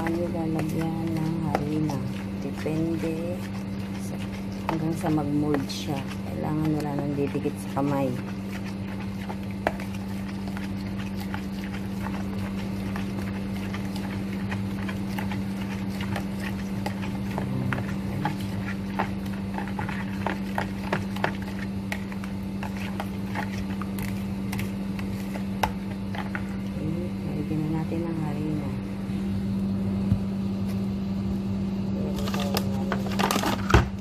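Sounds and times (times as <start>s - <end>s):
spoon stirring thick dough: 0.0s - 28.4s
steady low hum: 0.0s - 34.0s.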